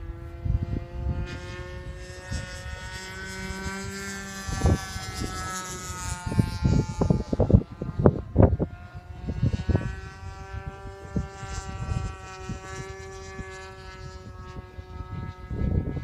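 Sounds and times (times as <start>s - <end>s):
model airplane motor drone: 0.0s - 16.0s
wind buffeting microphone: 0.0s - 16.0s.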